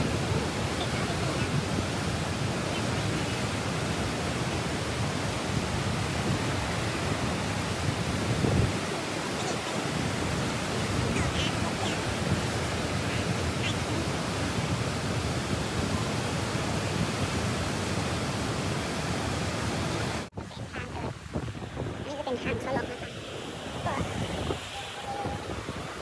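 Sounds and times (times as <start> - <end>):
water rushing through sluice: 0.0 - 26.0.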